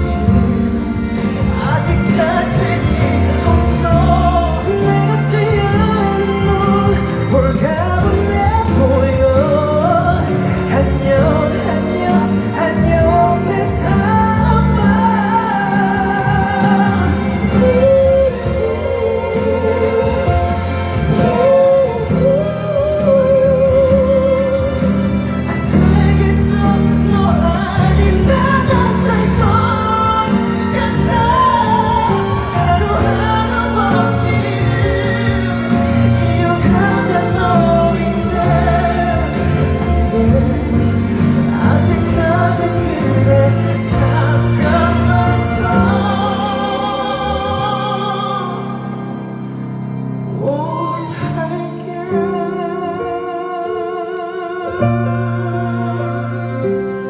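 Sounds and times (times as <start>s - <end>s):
band accompaniment: 0.0s - 57.0s
man singing with vibrato: 0.0s - 57.0s.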